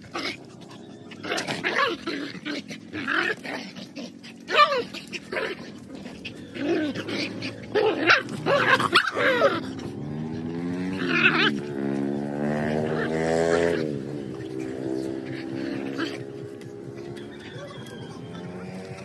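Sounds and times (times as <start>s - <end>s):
dogs growling and barking: 0.0s - 19.0s.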